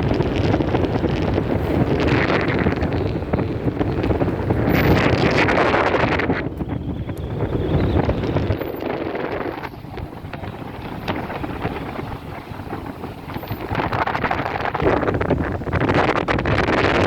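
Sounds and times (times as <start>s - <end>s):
crackles: 0.0s - 17.0s
strong wind buffeting microphone: 0.0s - 17.0s.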